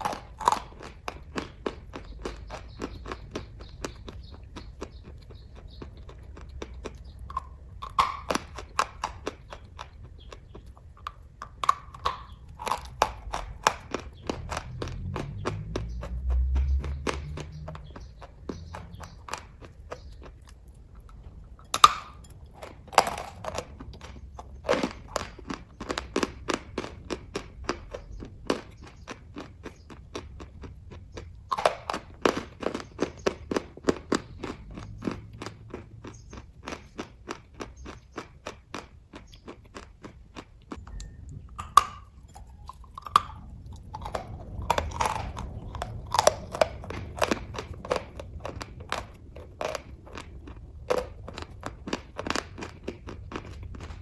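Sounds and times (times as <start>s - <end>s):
wet chewing and mouth smacks: 0.0s - 54.0s.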